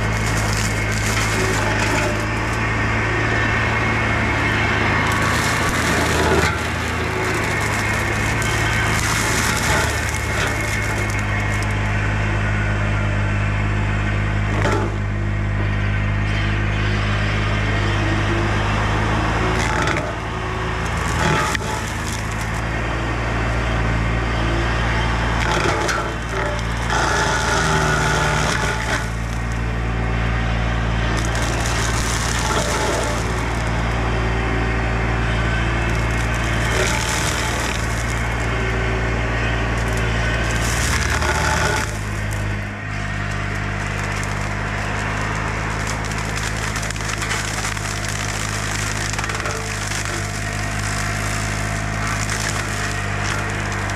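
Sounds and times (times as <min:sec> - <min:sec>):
brush cracking and splintering: 0:00.0 - 0:12.0, 0:19.3 - 0:23.6, 0:25.0 - 0:53.9
excavator diesel engine running: 0:00.0 - 0:53.9.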